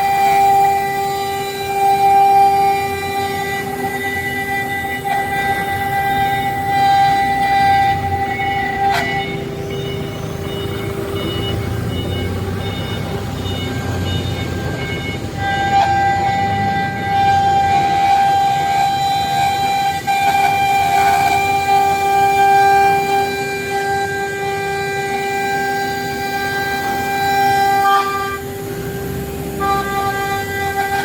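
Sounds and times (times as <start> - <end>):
router spindle whining: 0.0 - 31.0.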